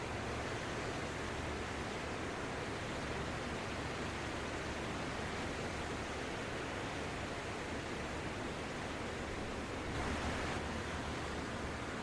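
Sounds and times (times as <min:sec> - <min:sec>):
waves washing up a beach: 0:00.0 - 0:12.0.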